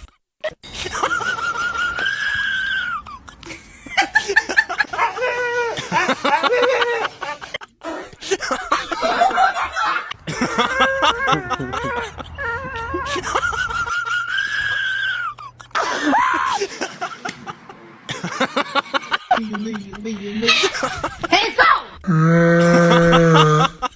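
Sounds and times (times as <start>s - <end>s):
people laughing and snickering: 0.6s - 23.9s.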